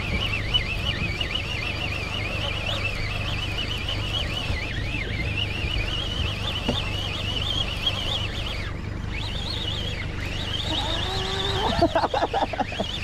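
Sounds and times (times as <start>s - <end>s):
fishing reels whining: 0.0s - 13.0s.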